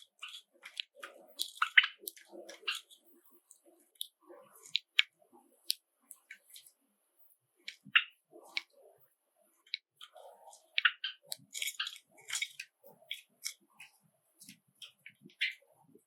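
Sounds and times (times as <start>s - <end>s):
small clicks and rustles: 0.0s - 8.9s, 9.6s - 16.0s.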